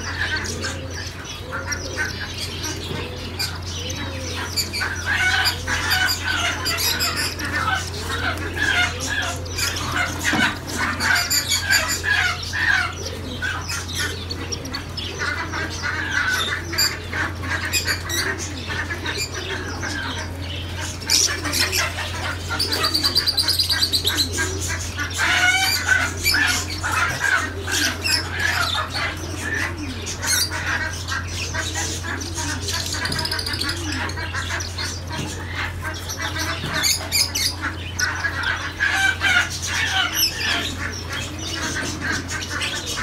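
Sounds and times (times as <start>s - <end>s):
caged birds chirping: 0.0s - 43.0s.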